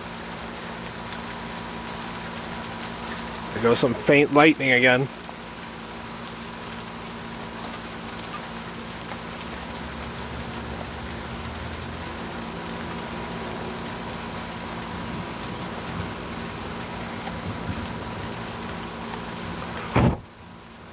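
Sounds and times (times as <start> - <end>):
steady rain falling: 0.0 - 20.9.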